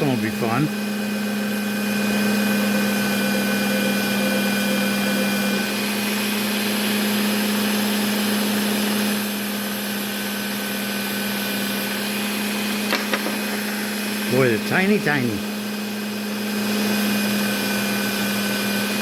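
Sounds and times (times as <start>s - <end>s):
belt sharpener motor humming: 0.0s - 19.0s.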